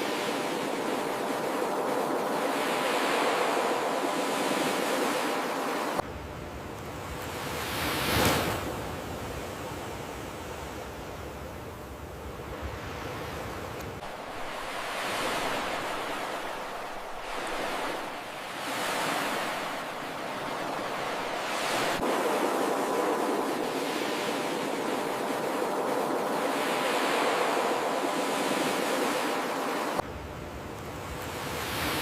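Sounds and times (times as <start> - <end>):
waves breaking on shore: 0.0 - 6.0, 6.8 - 11.4, 12.0 - 32.0.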